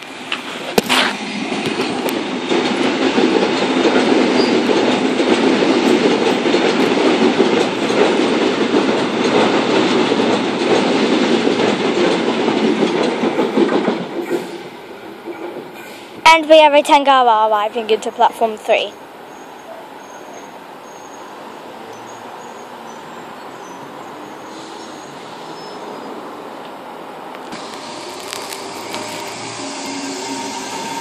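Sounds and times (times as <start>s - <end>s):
electric train rushing past: 0.0s - 16.2s, 19.0s - 31.0s.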